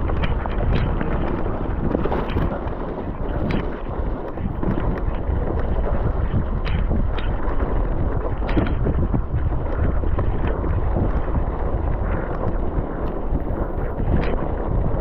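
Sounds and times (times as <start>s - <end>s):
low rumble and rushing noise: 0.0s - 15.0s
wind buffeting microphone: 0.0s - 15.0s.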